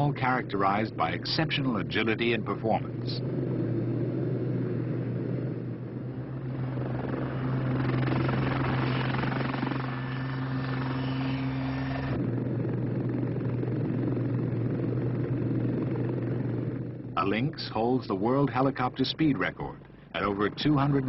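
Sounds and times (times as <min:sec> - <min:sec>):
helicopter rotor and turbine: 0:00.0 - 0:21.0
steady low hum: 0:00.0 - 0:21.0.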